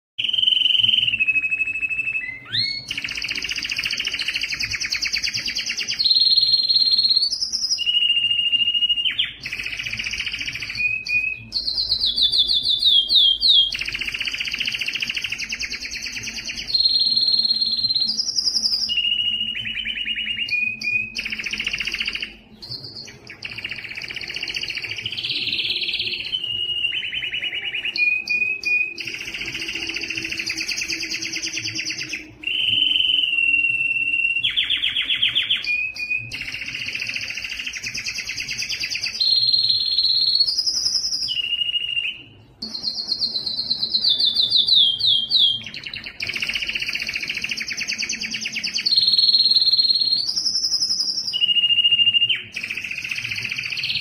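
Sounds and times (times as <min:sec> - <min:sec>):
canary singing: 0:00.2 - 0:54.0.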